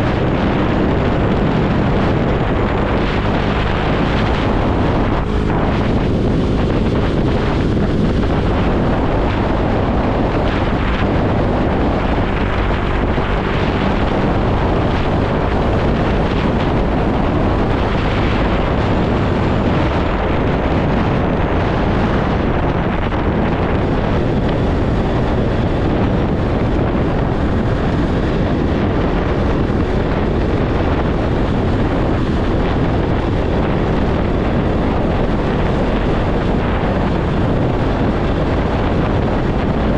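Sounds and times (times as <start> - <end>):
motorcycle running: 0.0 - 39.9
wind rush on microphone: 0.0 - 39.9.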